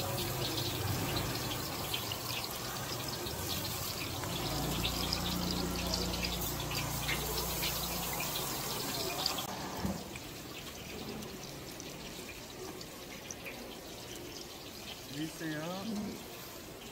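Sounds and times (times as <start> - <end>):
chicken sizzling on a grill: 0.0 - 16.9.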